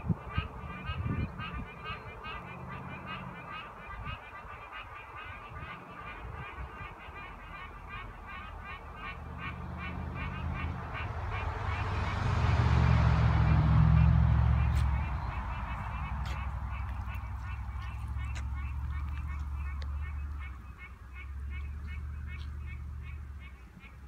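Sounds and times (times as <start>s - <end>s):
frogs calling: 0.1s - 12.0s, 13.4s - 24.0s.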